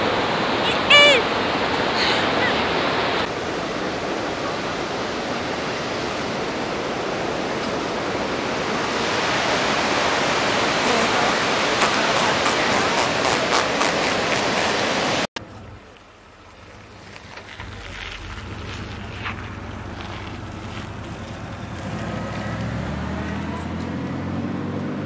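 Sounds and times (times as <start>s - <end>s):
water rushing: 0.0s - 23.3s.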